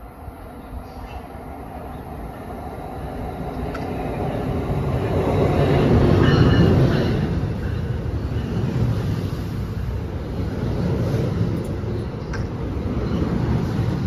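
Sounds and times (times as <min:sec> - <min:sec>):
train rumble and wheel noise: 0:00.0 - 0:14.0.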